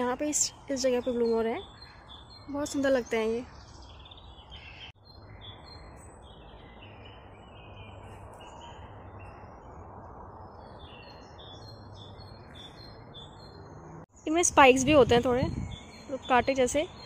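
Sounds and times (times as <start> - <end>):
small birds chirping and twittering: 0.0 - 17.0.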